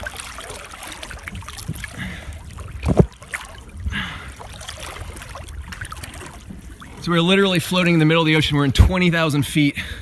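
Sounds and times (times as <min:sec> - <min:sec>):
low water surge: 0:00.0 - 0:09.0
sea water sloshing and gurgling: 0:00.0 - 0:10.0.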